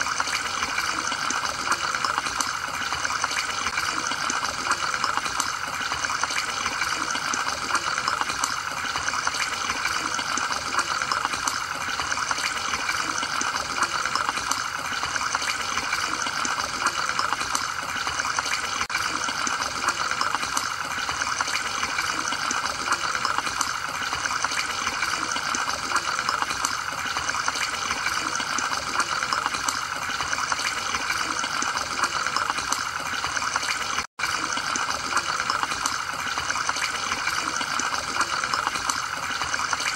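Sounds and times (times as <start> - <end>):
aquarium filter bubbling: 0.0 - 39.9.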